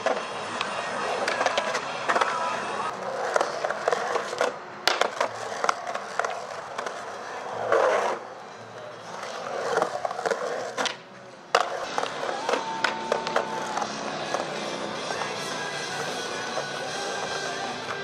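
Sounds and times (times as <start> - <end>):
skateboard clacks: 0.0 - 8.2, 9.2 - 18.0
skateboard wheels rolling on concrete: 0.0 - 18.0.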